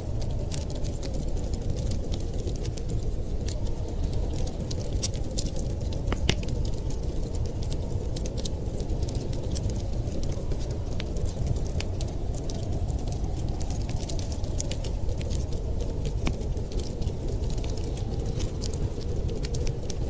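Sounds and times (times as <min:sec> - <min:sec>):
low rumble of blizzard wind: 0:00.0 - 0:20.0
wood fire crackling: 0:00.0 - 0:20.0.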